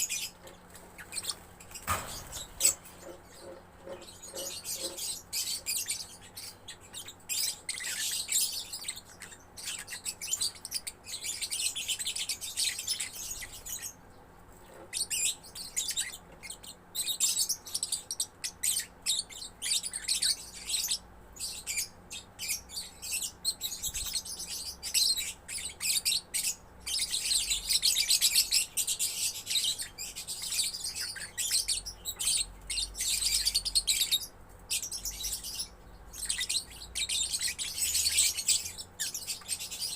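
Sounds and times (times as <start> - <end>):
lovebird chattering: 0.0 - 14.0, 14.9 - 39.9.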